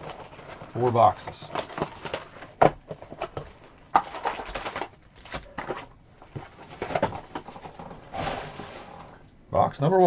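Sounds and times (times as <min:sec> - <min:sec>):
cardboard and plastic wrap crinkling: 0:00.0 - 0:09.2.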